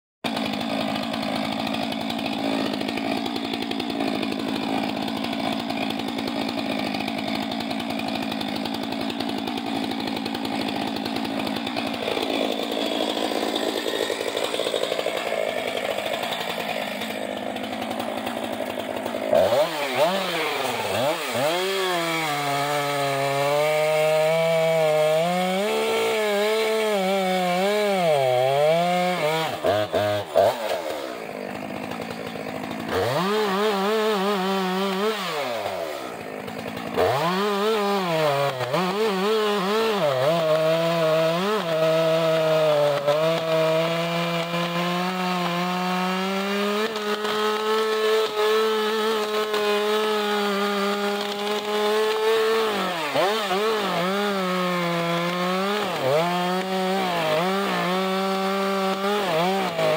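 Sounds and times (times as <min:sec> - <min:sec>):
chainsaw idling and revving: 0:00.2 - 0:59.9.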